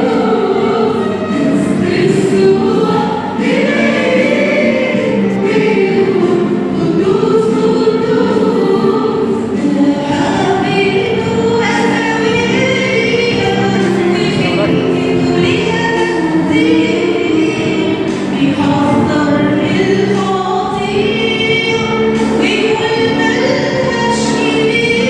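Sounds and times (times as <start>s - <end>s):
choir of women singing a hymn: 0.0s - 25.0s.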